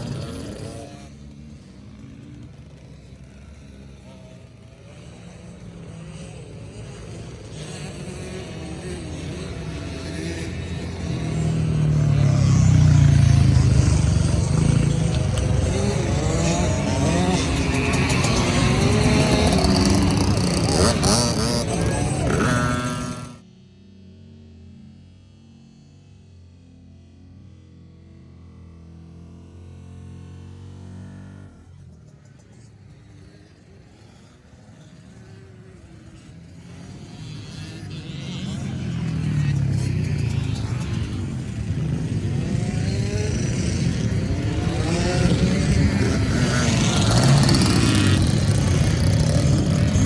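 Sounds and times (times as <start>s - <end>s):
dirt bike engine revving: 0.0s - 23.4s, 32.2s - 50.0s.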